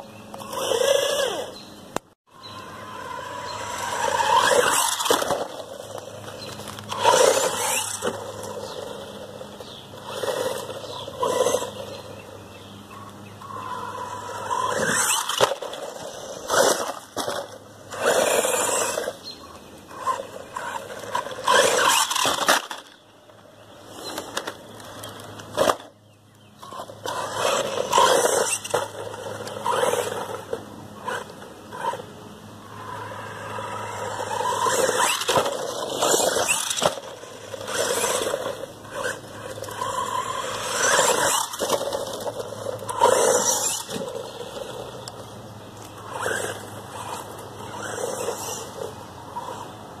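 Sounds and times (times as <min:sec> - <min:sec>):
toy truck motor whirring: 0:00.3 - 0:01.6, 0:02.4 - 0:12.1, 0:13.4 - 0:19.3, 0:19.9 - 0:23.0, 0:26.6 - 0:50.0
tyres skidding on gravel: 0:02.4 - 0:12.3, 0:13.4 - 0:25.9, 0:26.5 - 0:50.0.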